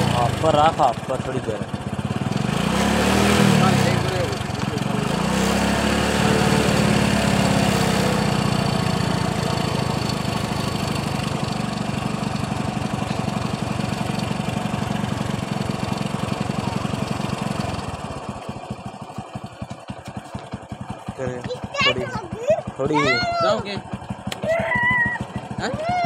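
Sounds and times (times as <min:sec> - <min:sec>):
toy tractor motor chugging: 0:00.0 - 0:26.0.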